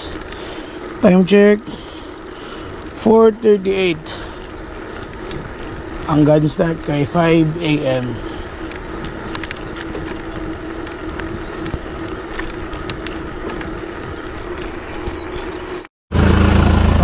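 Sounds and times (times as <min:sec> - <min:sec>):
bicycle tyre and wind noise: 0:00.0 - 0:15.9
low hum: 0:00.0 - 0:17.0.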